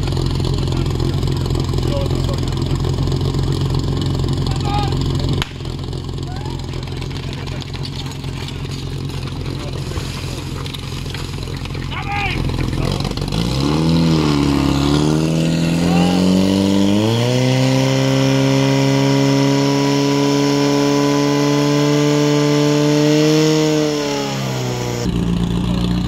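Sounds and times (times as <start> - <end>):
fire pump engine running: 0.0 - 26.0.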